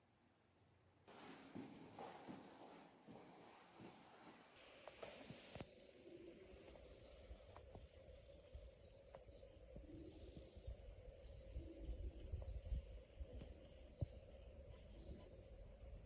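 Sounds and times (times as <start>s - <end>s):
faint high hiss: 1.1s - 16.0s.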